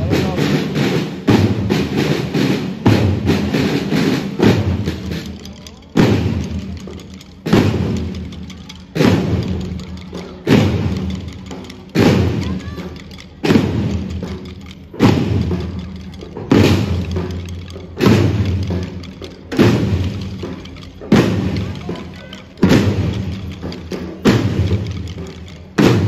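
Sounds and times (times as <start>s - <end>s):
marching drums beating: 0.0s - 26.0s.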